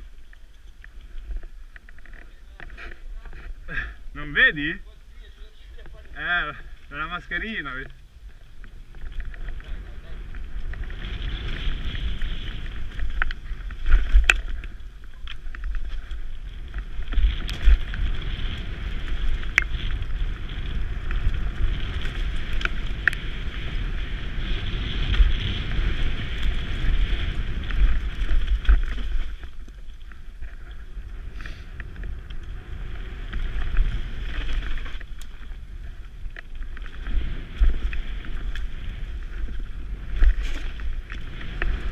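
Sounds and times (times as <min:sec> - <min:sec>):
bike rattling: 0:00.0 - 0:41.9
wind buffeting microphone: 0:01.0 - 0:41.9.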